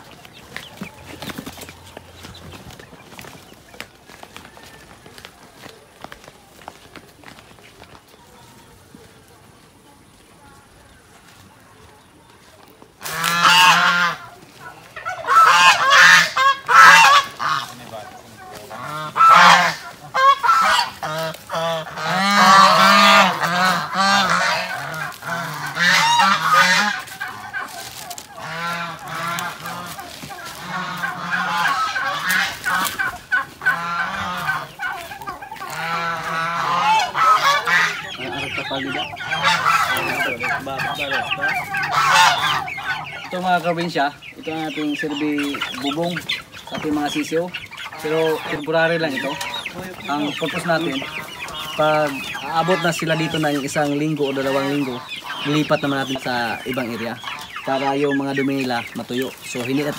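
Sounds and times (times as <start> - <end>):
poultry honking calls: 0.0 - 59.9.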